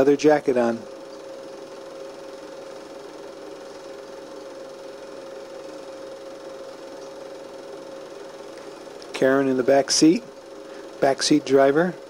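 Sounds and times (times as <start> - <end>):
constant hum: 0.0 - 12.0
film projector whirring: 0.0 - 12.0.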